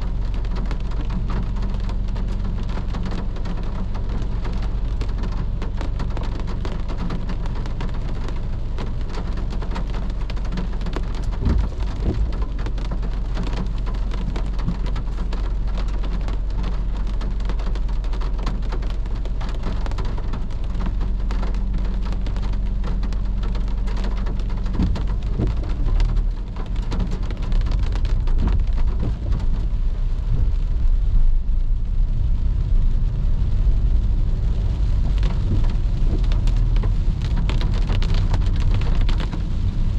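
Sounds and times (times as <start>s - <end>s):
engine and road rumble: 0.0s - 39.9s
rain pattering on a car: 0.0s - 39.9s.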